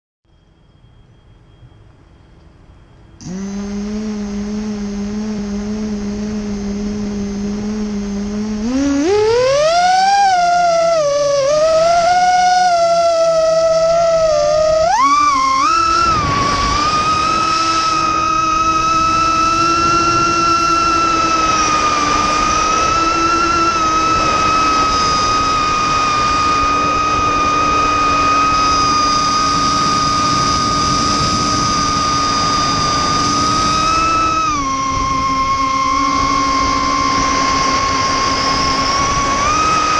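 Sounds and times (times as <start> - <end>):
drone motors whining: 3.2 - 39.9.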